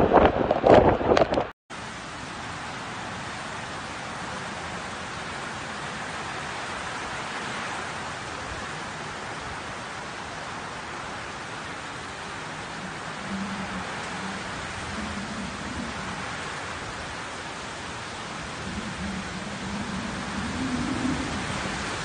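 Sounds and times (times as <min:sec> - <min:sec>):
heavy wind-driven rain: 0:00.0 - 0:22.0.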